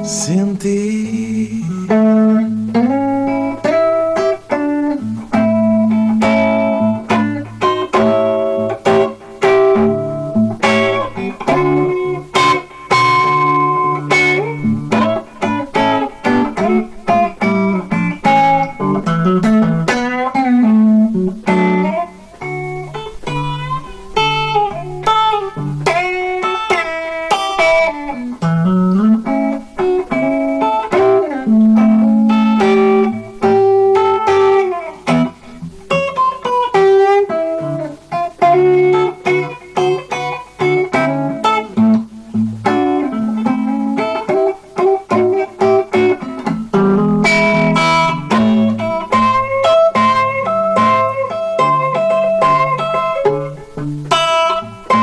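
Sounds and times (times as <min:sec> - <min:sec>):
electric blues guitar: 0:00.0 - 0:55.0.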